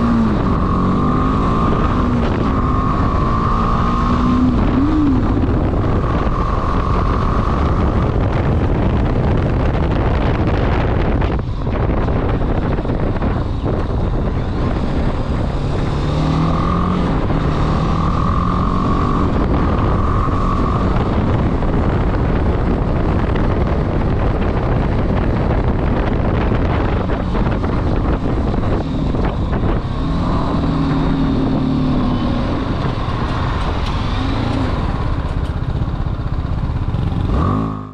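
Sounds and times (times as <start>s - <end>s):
motorcycle engine rumble: 0.0s - 37.9s
wind rush on microphone: 0.0s - 37.9s.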